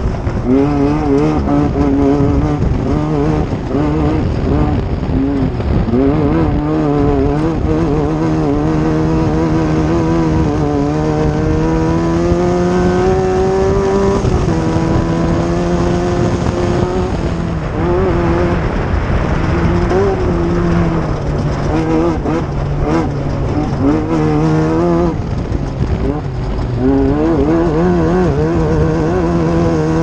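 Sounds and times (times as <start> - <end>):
race engine revving: 0.0 - 30.0.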